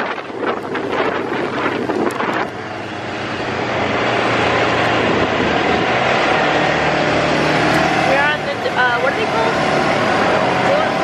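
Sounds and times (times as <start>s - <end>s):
engine drone: 0.0s - 11.0s
road noise: 0.0s - 11.0s
wind on microphone: 0.0s - 11.0s.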